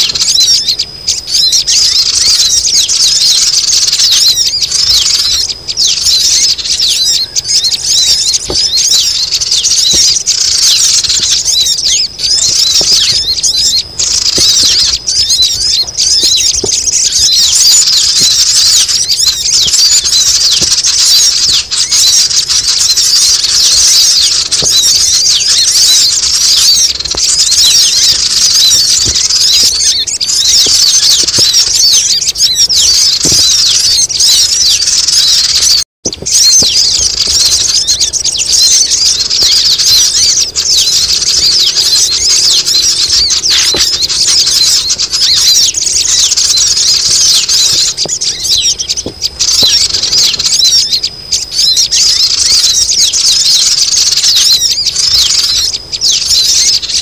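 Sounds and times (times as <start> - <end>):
chorus of squealing bird calls: 0.0 - 57.0.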